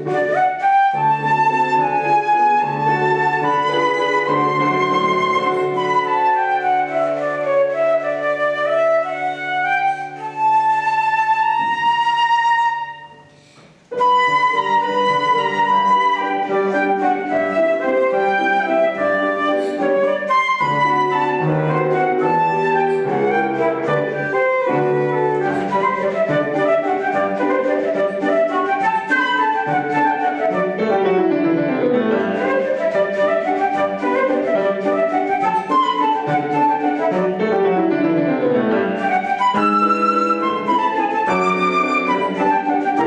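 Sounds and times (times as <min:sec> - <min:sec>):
flute playing waltz melody: 0:00.0 - 0:43.0.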